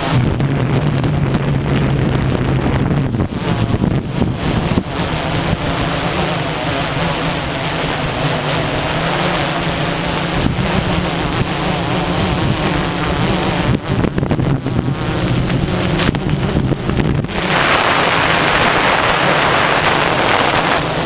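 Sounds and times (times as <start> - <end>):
drone motors humming: 0.0 - 21.0.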